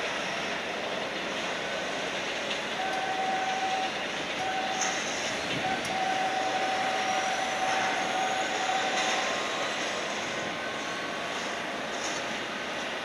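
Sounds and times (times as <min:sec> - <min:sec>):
high engine whine: 0:00.0 - 0:13.0
jet engine rush: 0:00.0 - 0:13.0.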